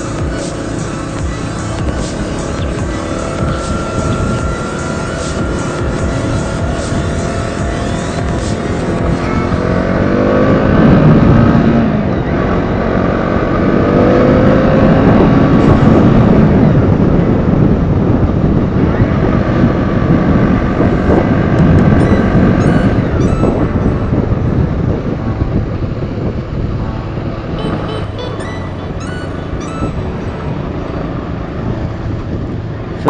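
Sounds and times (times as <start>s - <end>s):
motorcycle engine revving: 0.0s - 33.0s
wind and road noise: 0.0s - 33.0s.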